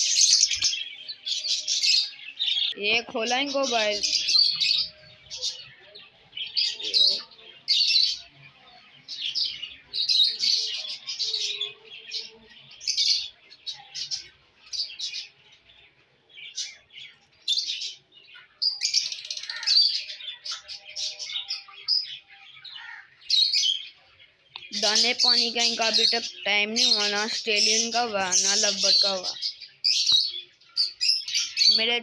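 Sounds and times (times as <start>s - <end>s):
birds chirping and chattering: 0.0s - 32.0s.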